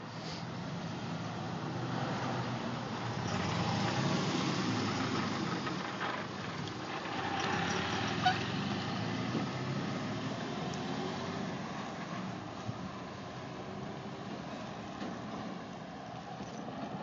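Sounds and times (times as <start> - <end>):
car engines running: 0.0 - 17.0
road noise: 0.0 - 17.0.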